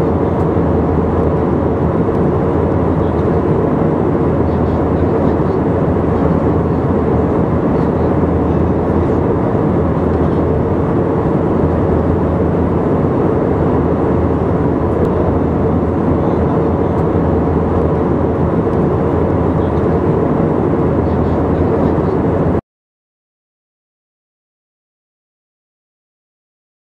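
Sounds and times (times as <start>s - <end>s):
airplane cabin engine drone: 0.0s - 22.6s.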